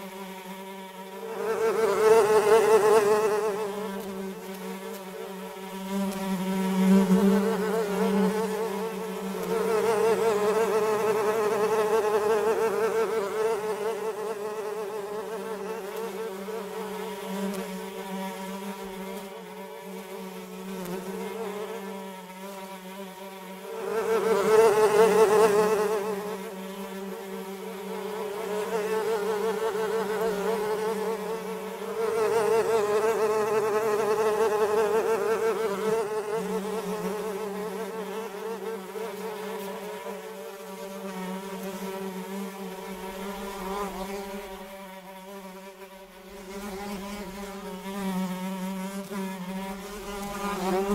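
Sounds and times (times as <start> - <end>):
flies buzzing: 0.0 - 50.9.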